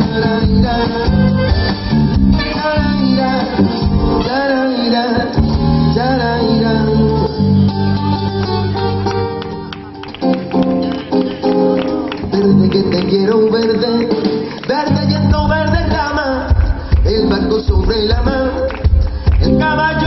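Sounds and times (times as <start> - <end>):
flamenco fusion band playing: 0.0 - 20.0.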